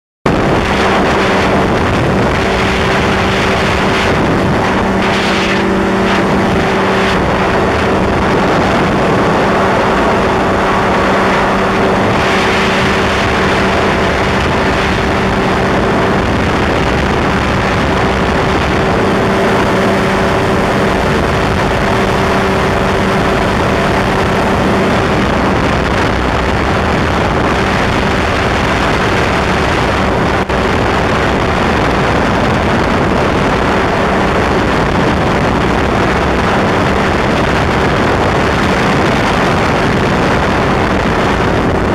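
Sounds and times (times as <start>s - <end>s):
engine and propeller drone: 0.2s - 41.9s.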